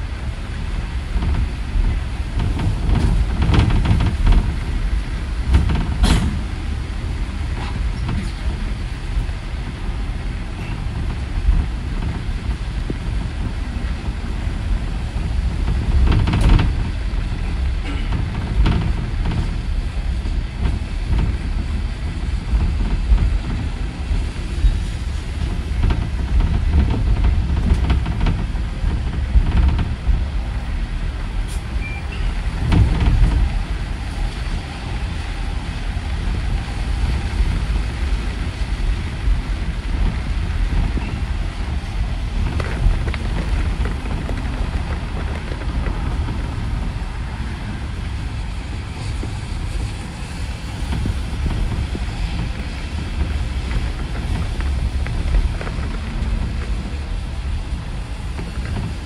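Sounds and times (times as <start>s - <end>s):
bus ride rumble: 0.0s - 59.0s.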